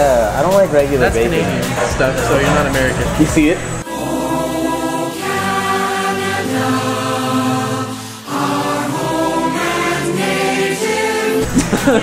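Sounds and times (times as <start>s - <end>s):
choir singing held chords: 1.2s - 12.0s.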